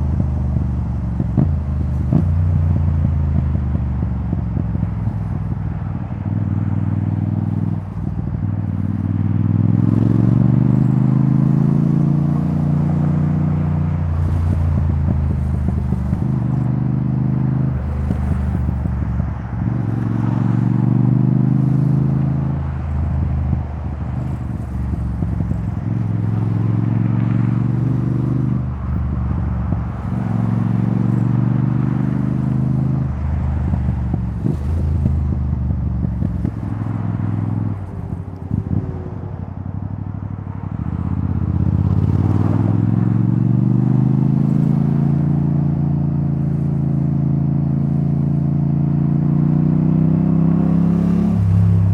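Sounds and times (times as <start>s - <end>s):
motorcycle engine revving: 0.0s - 51.9s
wind and road rush: 0.0s - 51.9s.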